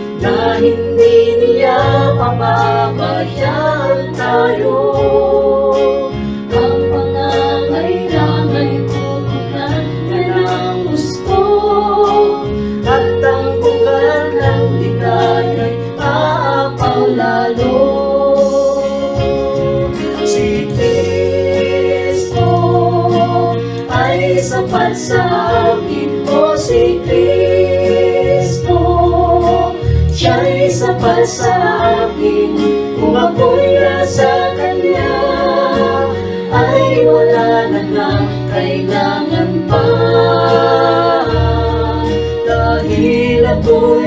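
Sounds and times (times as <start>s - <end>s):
electronic keyboard accompaniment: 0.0s - 44.0s
women singing worship song: 0.0s - 44.0s.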